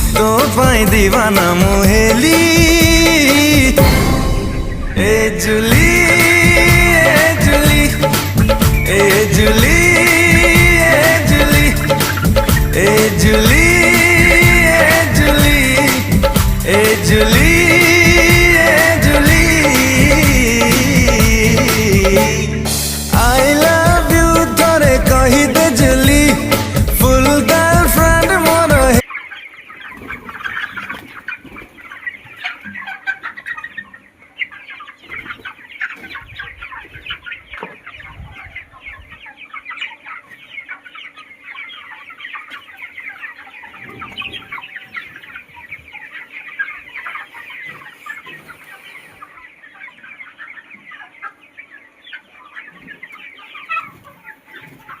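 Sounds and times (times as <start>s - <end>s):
chickens clucking and calling: 0.0s - 55.0s.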